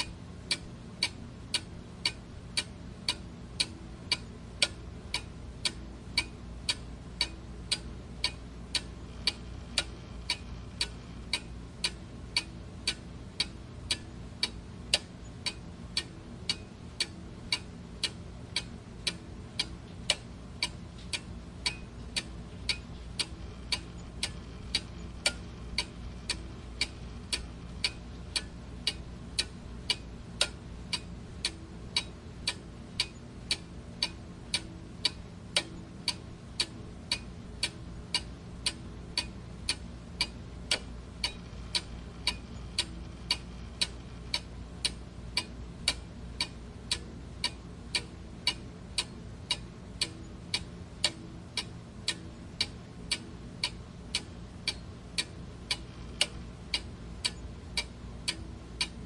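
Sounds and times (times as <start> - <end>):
clock ticking: 0.0 - 59.0
faint low hum: 0.0 - 59.0.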